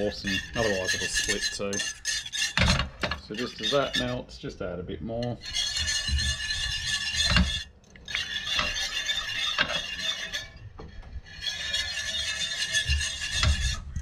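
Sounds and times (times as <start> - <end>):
whisk scraping a metal pan: 0.0 - 4.4, 5.2 - 14.0.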